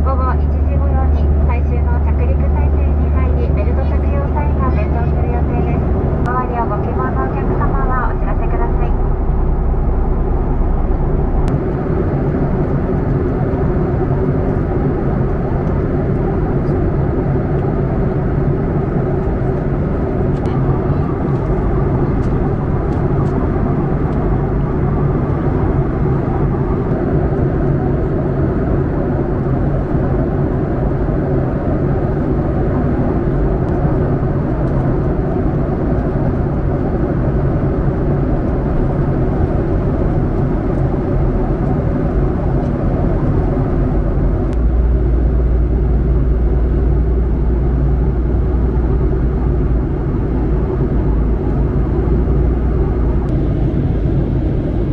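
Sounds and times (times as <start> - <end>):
even low hum: 0.0 - 54.9
jet engines and airflow rushing: 0.0 - 54.9.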